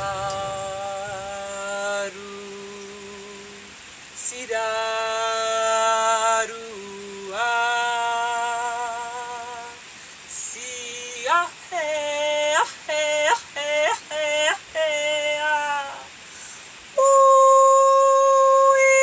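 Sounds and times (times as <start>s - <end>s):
woman singing long held notes: 0.0s - 16.2s, 16.8s - 19.0s.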